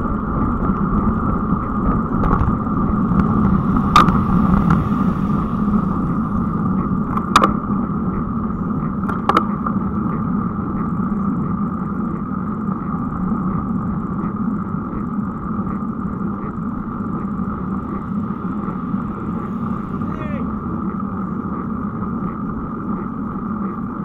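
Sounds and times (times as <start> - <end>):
bicycle rolling on rough asphalt: 0.0 - 24.0.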